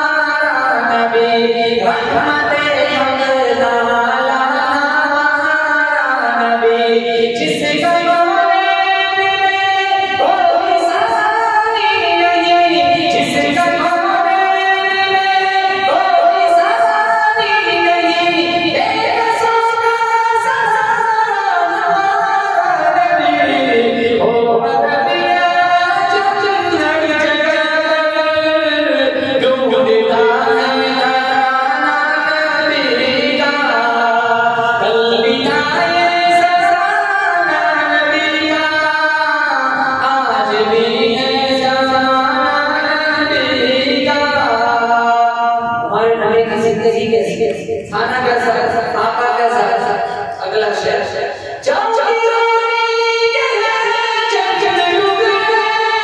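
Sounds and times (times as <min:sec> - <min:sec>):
man singing devotional song: 0:00.0 - 0:56.0.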